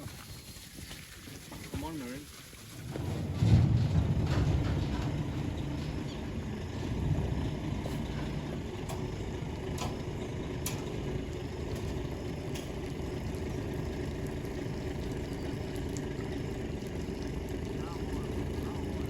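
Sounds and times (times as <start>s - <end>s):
vehicle engine running at low revs: 2.9s - 19.0s.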